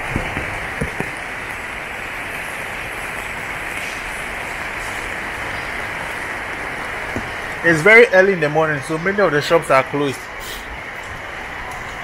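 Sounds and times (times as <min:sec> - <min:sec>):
rain on wet paving: 0:00.0 - 0:12.0.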